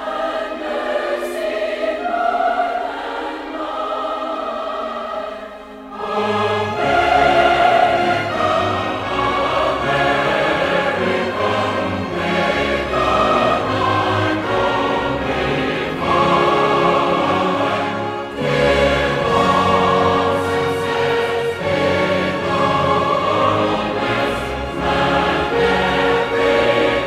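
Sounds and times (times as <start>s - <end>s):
choir singing held notes: 0.0s - 27.0s
orchestral music: 0.0s - 27.0s.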